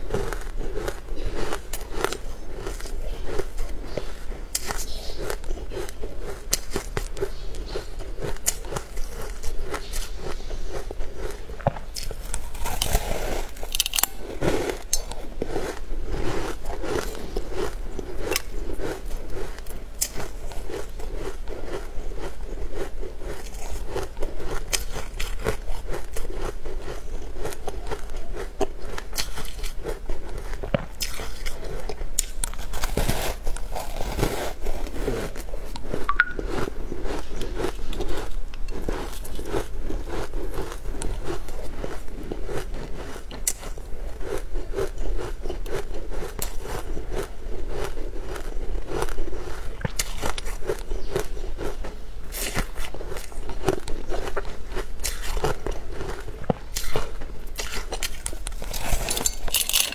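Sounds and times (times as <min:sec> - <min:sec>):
wet chewing with clicks: 0:00.0 - 0:59.9.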